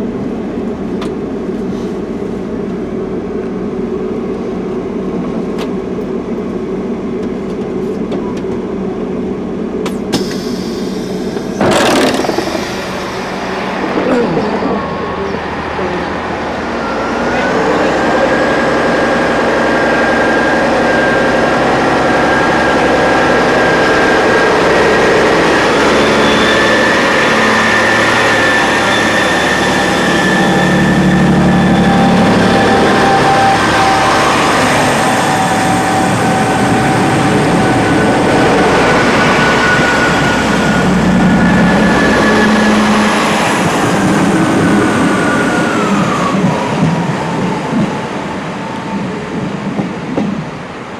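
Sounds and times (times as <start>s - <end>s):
train rumble and rail noise: 0.0s - 50.9s
high whine: 9.7s - 50.9s.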